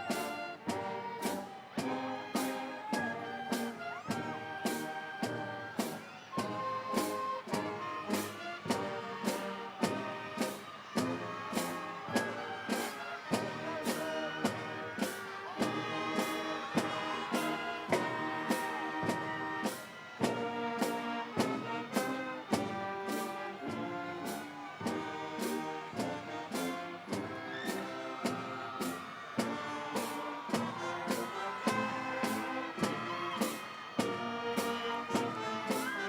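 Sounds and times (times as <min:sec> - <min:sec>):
brass band music: 0:00.0 - 0:36.0
steady drum beat: 0:00.0 - 0:36.0.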